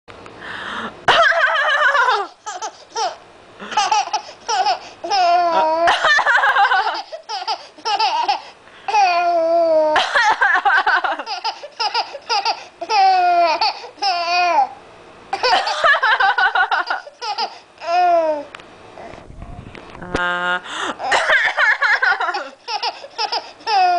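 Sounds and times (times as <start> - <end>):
baby laughing: 1.1 - 14.7, 15.3 - 18.5, 21.0 - 23.9.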